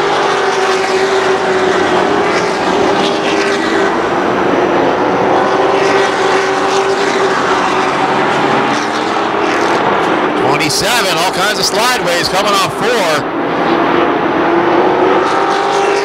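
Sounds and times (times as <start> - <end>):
racing truck engines: 0.0 - 16.0.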